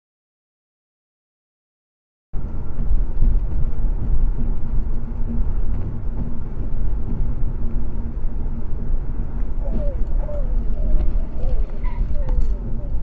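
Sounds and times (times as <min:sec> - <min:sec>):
faint steady hum: 0:02.4 - 0:13.0
vehicle road and engine rumble: 0:02.4 - 0:13.0.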